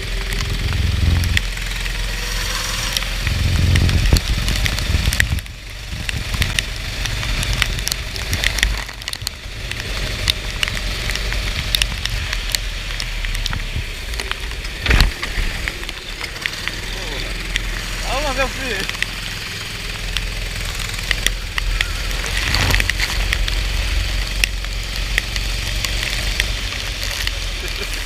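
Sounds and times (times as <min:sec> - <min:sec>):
heavy rain on microphone: 0:00.0 - 0:28.0
low steady rumble: 0:00.0 - 0:28.0.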